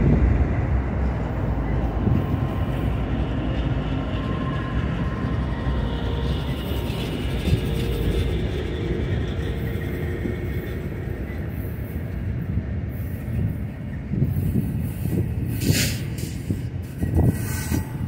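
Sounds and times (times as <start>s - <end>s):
diesel locomotive engine drone: 0.0s - 18.0s
steel wheels rumbling on rail: 0.0s - 18.0s.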